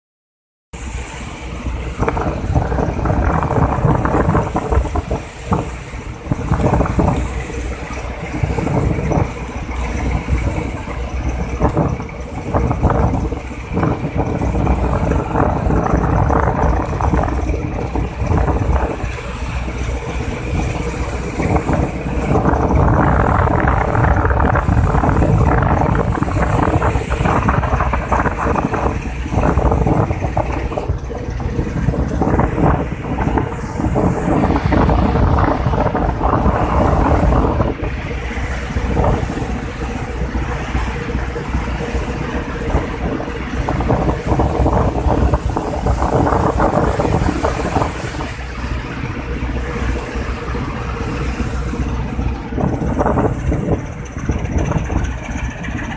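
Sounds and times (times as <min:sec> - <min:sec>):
boat engine hum: 0:00.7 - 0:55.9
waves splashing along hull: 0:00.7 - 0:55.9
wind buffeting microphone: 0:00.8 - 0:55.9.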